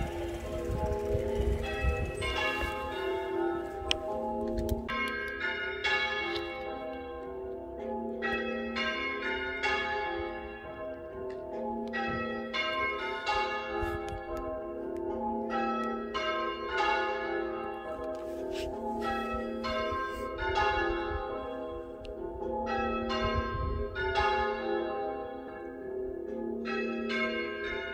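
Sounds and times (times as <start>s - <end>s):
church bells ringing: 0.0s - 27.9s.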